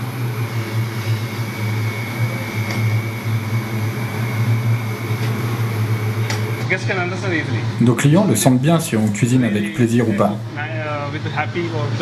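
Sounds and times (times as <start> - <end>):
high whine: 0.0 - 11.3
extractor hood fan humming: 0.0 - 11.8.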